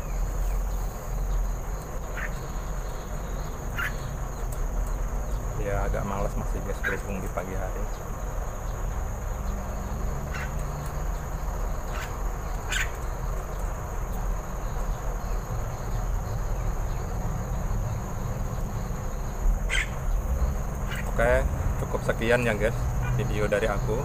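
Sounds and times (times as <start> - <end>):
crickets trilling: 0.0 - 24.0
low background rumble: 0.0 - 24.0.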